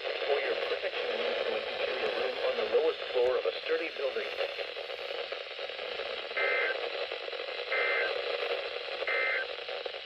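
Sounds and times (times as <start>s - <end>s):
radio static: 0.0s - 10.0s.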